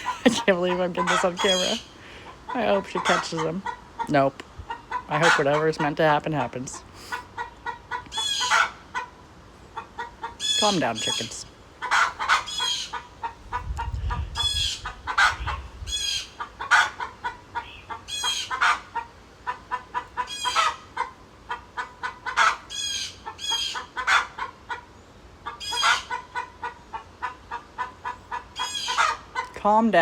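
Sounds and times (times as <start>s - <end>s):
chickens clucking and squawking: 0.0s - 30.0s.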